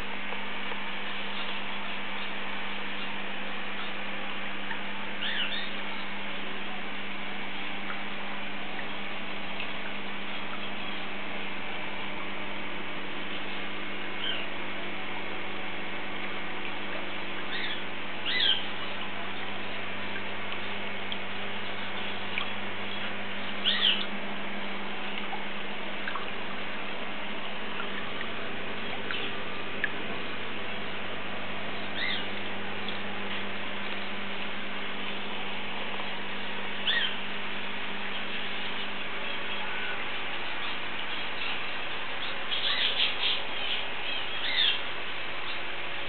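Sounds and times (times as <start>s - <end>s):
low pump hum: 0.0s - 46.0s
rushing water in aquarium: 0.0s - 46.0s.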